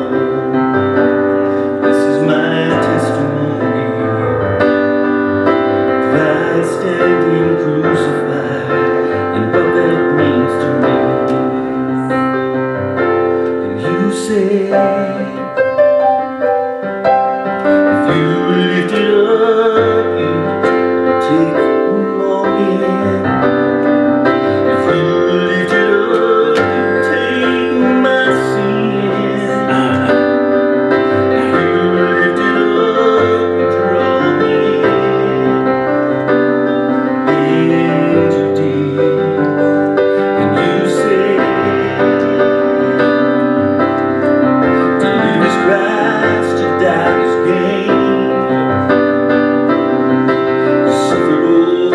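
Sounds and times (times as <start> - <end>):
keyboard playing slow chords: 0.0 - 51.9.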